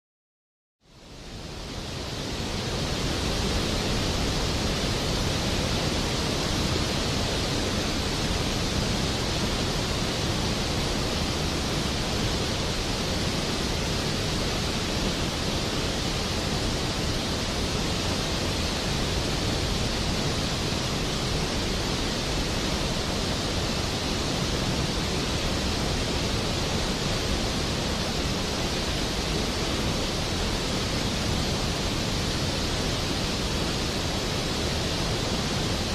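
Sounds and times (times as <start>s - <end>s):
steady rain hiss: 0.8s - 35.9s.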